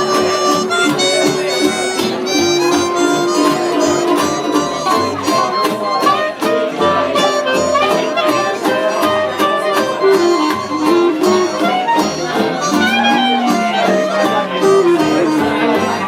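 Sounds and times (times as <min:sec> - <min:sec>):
acoustic guitar: 0:00.0 - 0:16.0
bass line: 0:00.0 - 0:16.0
clarinet melody: 0:00.0 - 0:16.0.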